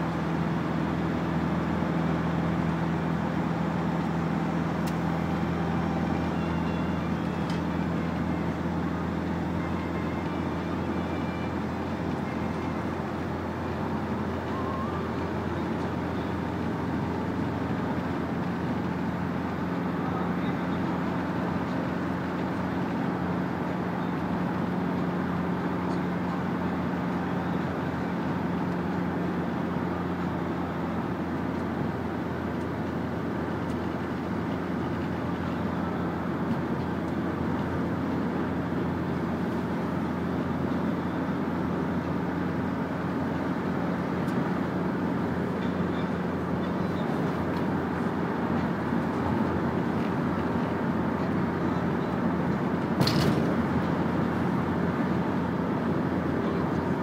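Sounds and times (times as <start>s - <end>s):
road noise: 0.0s - 57.0s
vehicle engine hum: 0.0s - 57.0s.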